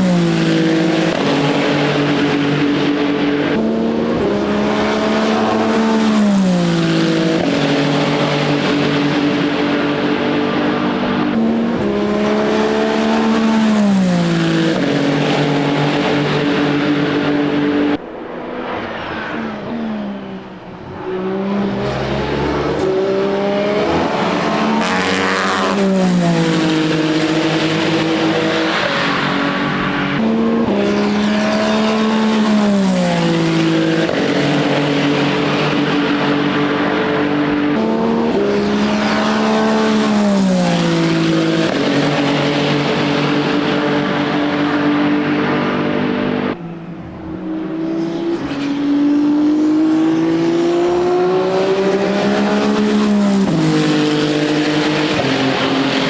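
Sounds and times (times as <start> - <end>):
race car engine downshifting and accelerating: 0.0 - 56.0.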